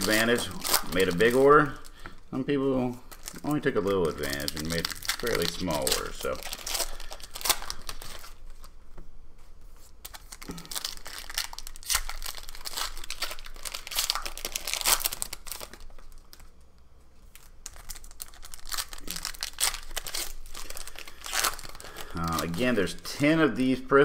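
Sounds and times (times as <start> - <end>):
plastic wrappers crinkling and tearing: 0.0 - 8.8, 9.8 - 23.2.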